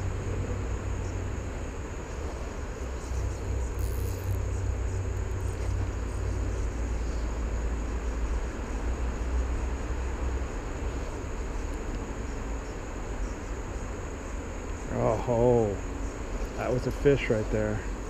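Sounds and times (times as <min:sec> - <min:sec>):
high insect buzz: 0:00.6 - 0:18.0.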